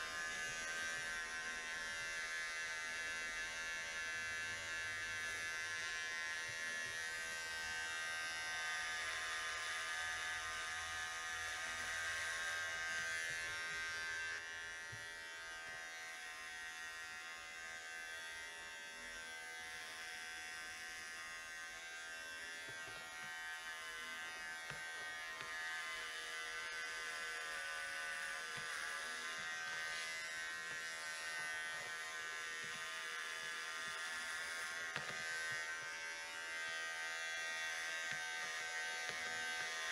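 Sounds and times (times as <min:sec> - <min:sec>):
electric hair clipper buzzing: 0:00.0 - 0:39.9.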